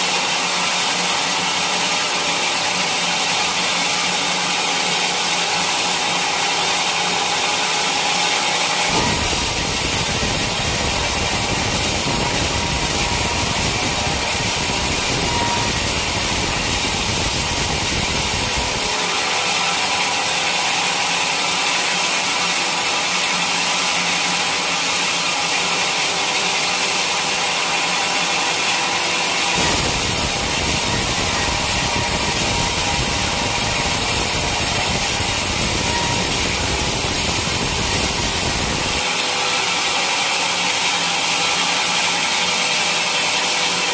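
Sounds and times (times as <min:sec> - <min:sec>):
mill saw cutting log: 0:00.0 - 0:43.9.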